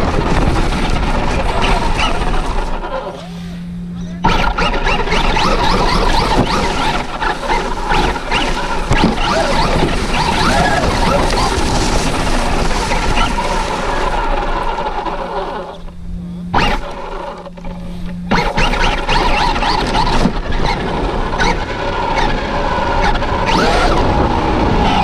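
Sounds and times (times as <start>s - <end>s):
toy truck motor whining: 0.0s - 25.0s
tyres scraping through dirt: 4.2s - 15.9s, 16.6s - 25.0s.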